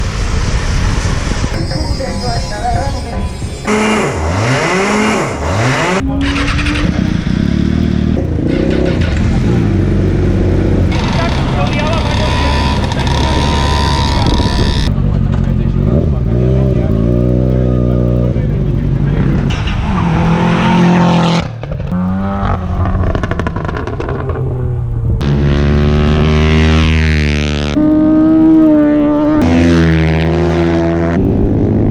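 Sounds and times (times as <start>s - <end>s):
motorcycle engines revving: 3.5s - 31.9s.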